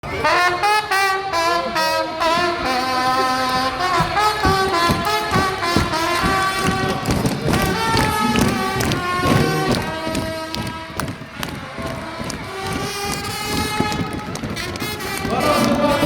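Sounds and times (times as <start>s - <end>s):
brass band music: 0.0s - 16.0s
drum beats: 2.2s - 16.0s.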